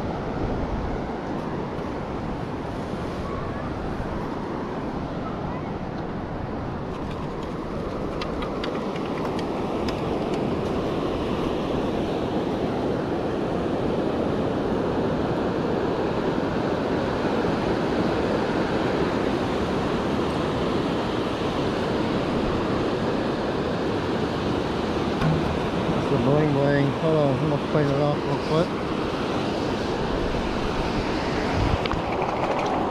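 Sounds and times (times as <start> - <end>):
wind: 0.0 - 32.9.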